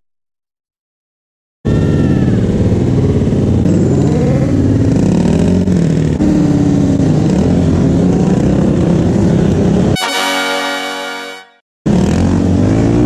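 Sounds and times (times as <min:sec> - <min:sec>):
motorcycle engines revving: 0:01.7 - 0:13.0.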